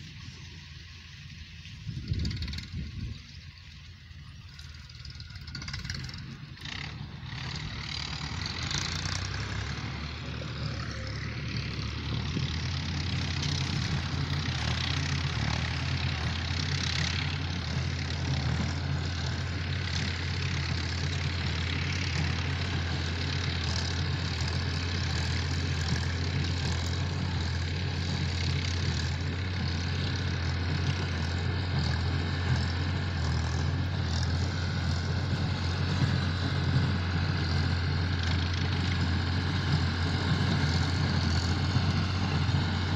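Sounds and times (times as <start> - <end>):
tractor engine droning: 0.0 - 42.9.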